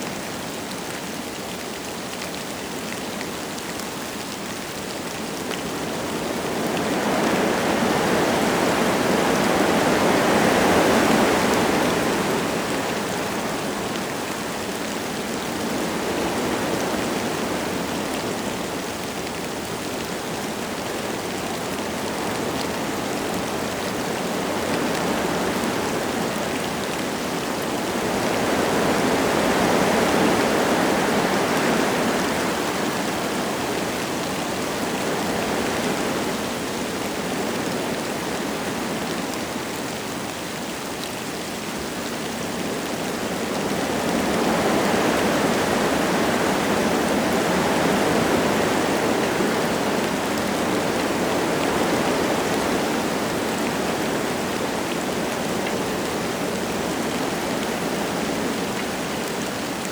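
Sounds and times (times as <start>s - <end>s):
light rain: 0.0s - 59.9s
wind gusting through trees: 0.0s - 59.9s.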